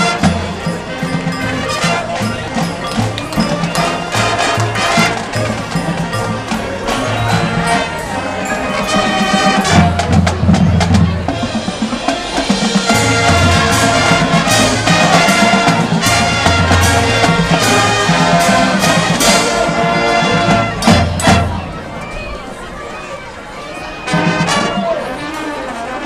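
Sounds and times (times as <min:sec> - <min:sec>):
drums and percussion strokes: 0:00.0 - 0:22.5
marching band playing: 0:00.0 - 0:26.0.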